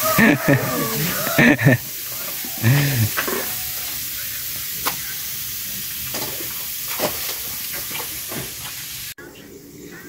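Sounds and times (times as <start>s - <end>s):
food sizzling in frying pan: 0.0s - 9.2s.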